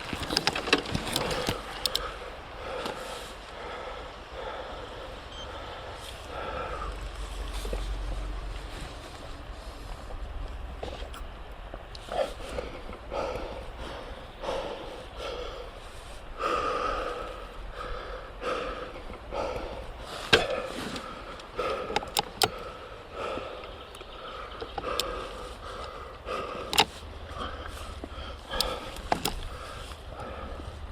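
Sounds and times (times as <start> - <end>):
person breathing hard: 1.1 - 11.1, 12.0 - 30.9.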